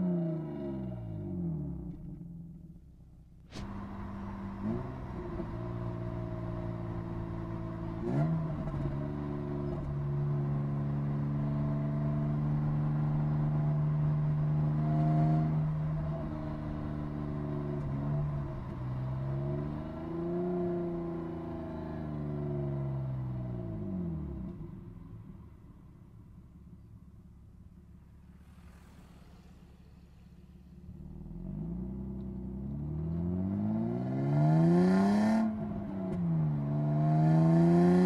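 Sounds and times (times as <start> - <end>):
car engine from inside cabin: 3.5 - 38.0.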